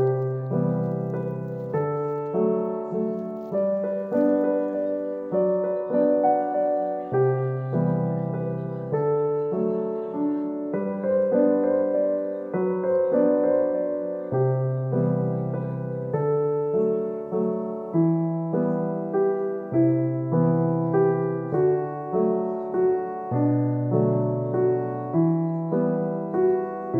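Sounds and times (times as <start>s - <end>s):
gentle piano melody: 0.0s - 26.9s.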